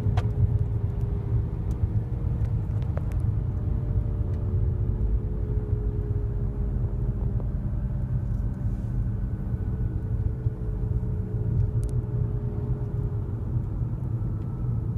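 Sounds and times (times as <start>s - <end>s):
car droning hum: 0.0s - 14.9s
low road rumble: 0.0s - 14.9s.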